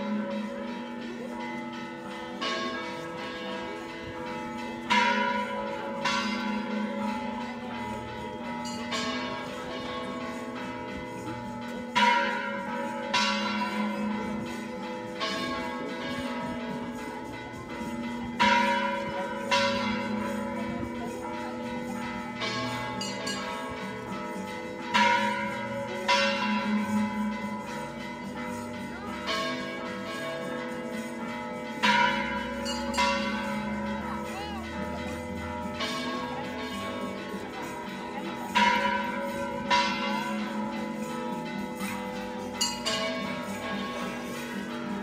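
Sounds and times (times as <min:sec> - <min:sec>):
church bells ringing: 0:00.0 - 0:45.0.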